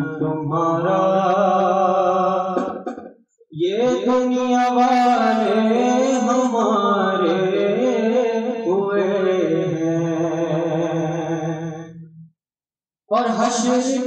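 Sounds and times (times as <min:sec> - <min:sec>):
person singing devotional song: 0:00.0 - 0:03.0, 0:03.6 - 0:12.0, 0:13.1 - 0:14.0.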